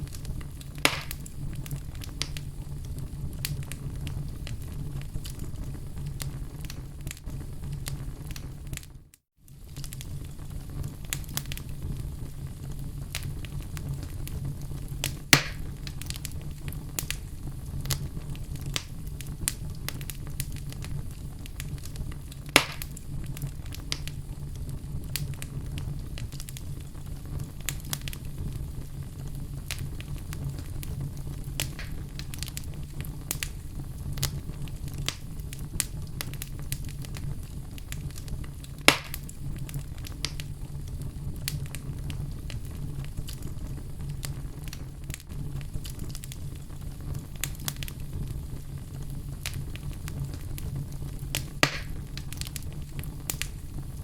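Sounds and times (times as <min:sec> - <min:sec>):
fireplace fire crackling: 0:00.0 - 0:54.0
loud fire pops: 0:00.0 - 0:54.0.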